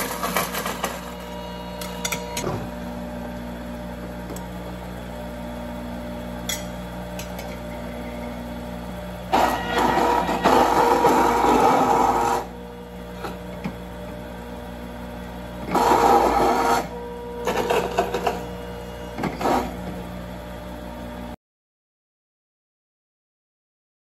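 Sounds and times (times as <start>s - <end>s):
juicer grinding fruit: 0.0s - 21.3s
juicer motor hum: 0.0s - 21.4s.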